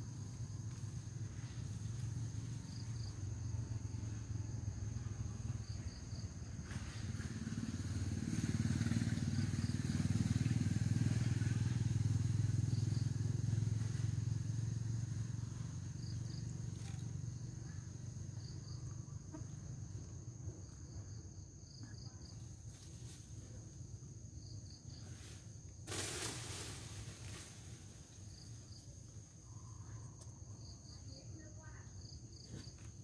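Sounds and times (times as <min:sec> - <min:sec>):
low engine hum: 0:00.0 - 0:31.3
high insect drone: 0:00.0 - 0:33.0.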